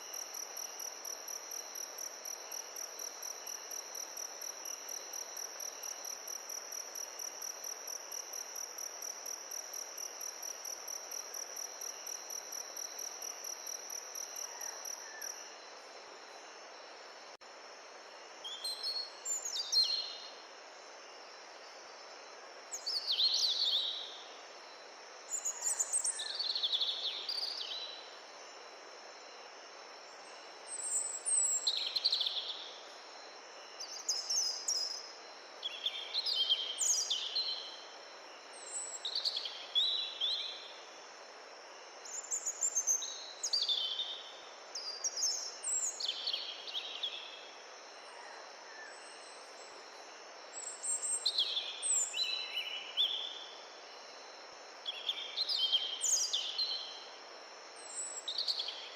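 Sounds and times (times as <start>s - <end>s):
faint high insect drone: 0.0s - 58.9s
gentle wind hiss: 0.0s - 58.9s.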